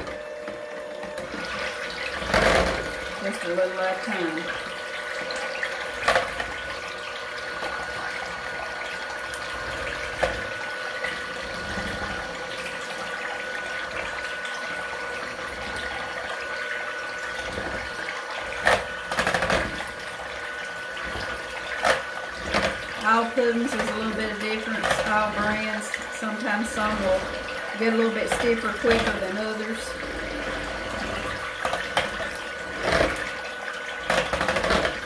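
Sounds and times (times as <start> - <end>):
electric hand mixer whirring: 0.0 - 35.0.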